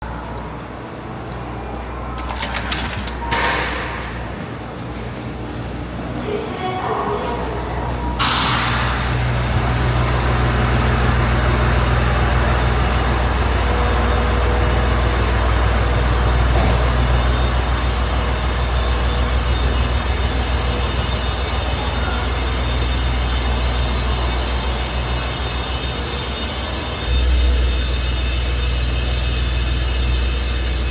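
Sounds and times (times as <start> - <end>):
diesel railcar engine drone: 0.0 - 30.9
wheel and rail noise: 0.0 - 30.9.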